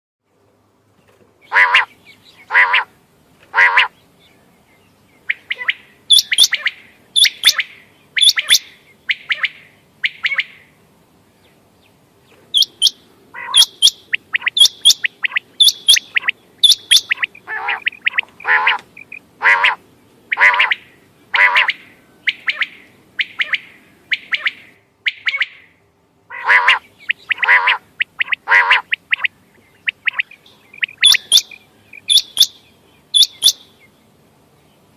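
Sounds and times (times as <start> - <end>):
quail calling: 1.4 - 2.9, 3.5 - 4.0, 5.2 - 10.8, 12.5 - 33.8.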